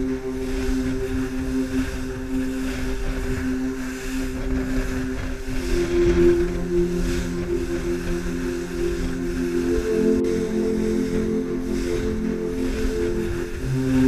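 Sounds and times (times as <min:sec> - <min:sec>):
motorboat engine droning: 0:00.0 - 0:14.0
wind and spray hiss: 0:00.0 - 0:14.0.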